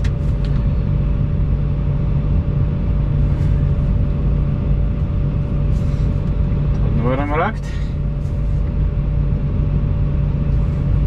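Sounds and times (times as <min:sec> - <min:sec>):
excavator diesel engine running: 0:00.0 - 0:11.0
thin steady whine: 0:00.0 - 0:11.0.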